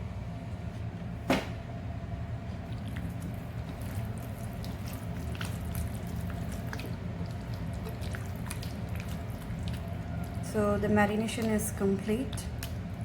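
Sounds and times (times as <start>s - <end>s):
steady low hum: 0.0s - 13.0s
wet squelches of mixing meat: 2.4s - 13.0s.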